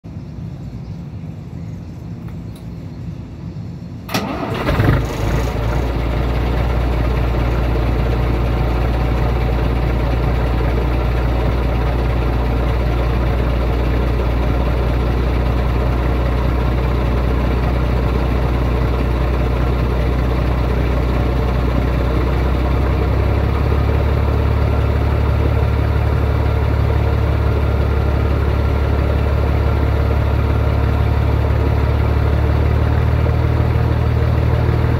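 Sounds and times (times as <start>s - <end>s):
diesel engine cranking and idling: 4.1s - 34.9s.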